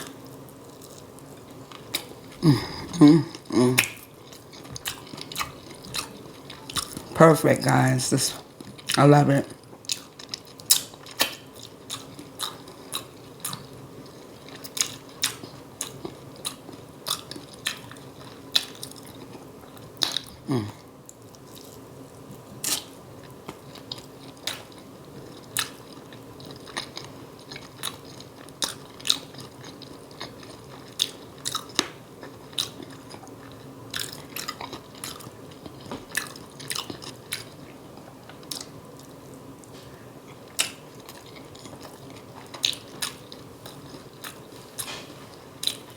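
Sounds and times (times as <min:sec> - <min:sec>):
chewing with wet mouth smacks: 0:00.8 - 0:07.1, 0:08.5 - 0:09.0, 0:09.6 - 0:45.9.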